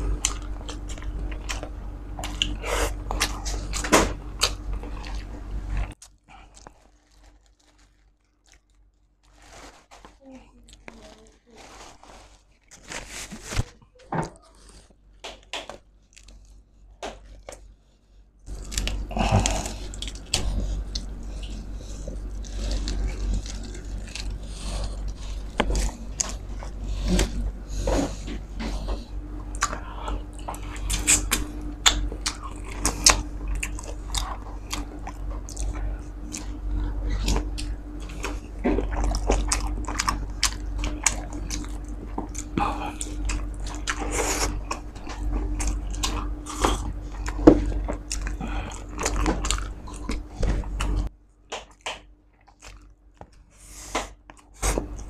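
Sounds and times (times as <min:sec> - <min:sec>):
crunching and chewing crispy meat: 0:00.0 - 0:17.8, 0:18.4 - 0:55.0.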